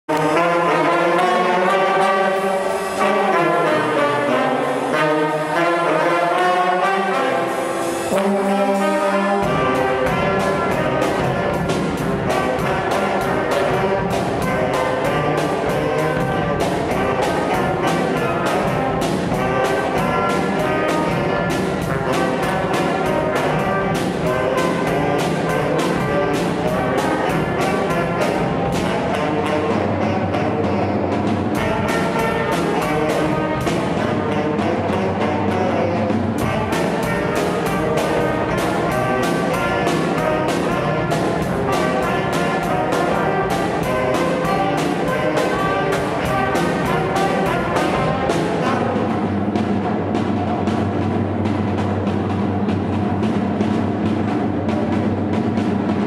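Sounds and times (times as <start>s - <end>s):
brass band playing: 0.0s - 56.0s
fast steady beat: 0.1s - 56.0s.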